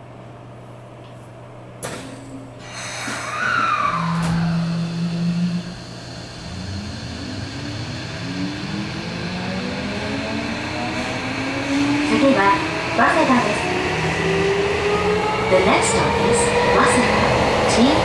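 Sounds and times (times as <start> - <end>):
train motors whining rising in pitch: 2.6 - 18.0
steady low hum: 3.3 - 17.9.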